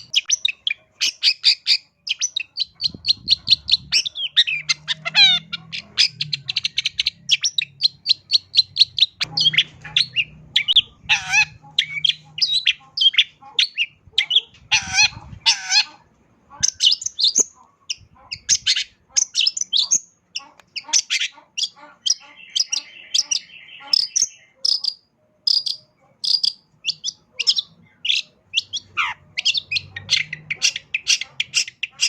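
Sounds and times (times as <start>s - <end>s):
bird singing varied song: 0.0s - 32.0s.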